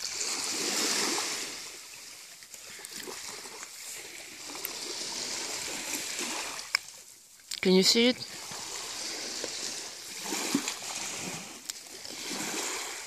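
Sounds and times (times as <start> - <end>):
waves washing over pebbles: 0.0 - 13.0.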